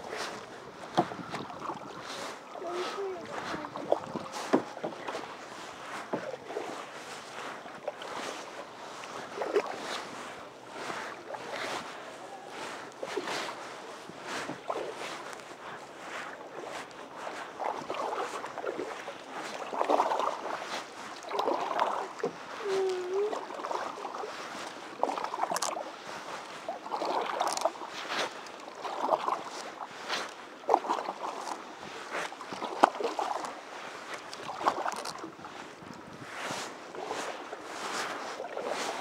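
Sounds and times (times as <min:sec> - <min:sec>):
paddles splashing in water: 0:00.0 - 0:39.0.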